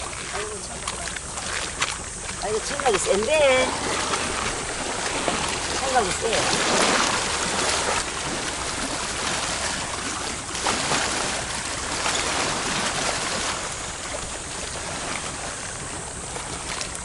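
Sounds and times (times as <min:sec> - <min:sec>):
seawater washing at shore: 0:00.0 - 0:17.0.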